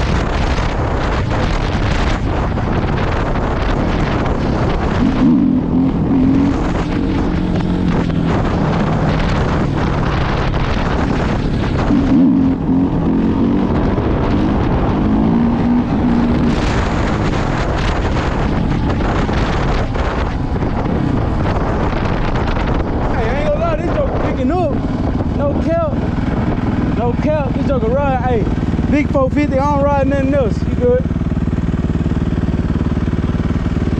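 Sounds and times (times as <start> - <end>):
dirt bike engine revving: 0.0 - 33.9
wind noise on microphone: 0.0 - 33.9.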